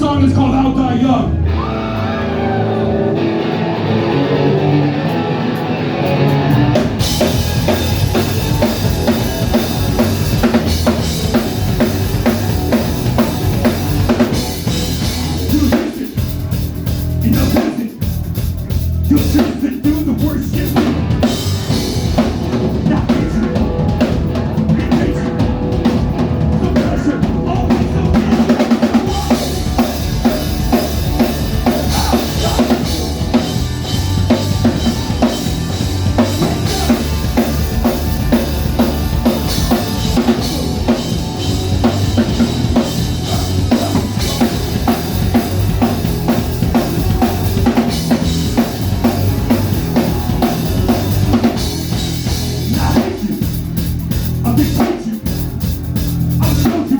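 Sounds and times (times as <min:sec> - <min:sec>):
amplified guitar: 0:00.0 - 0:56.9
live rock band playing: 0:00.0 - 0:56.9
pounding drum kit: 0:04.1 - 0:56.9.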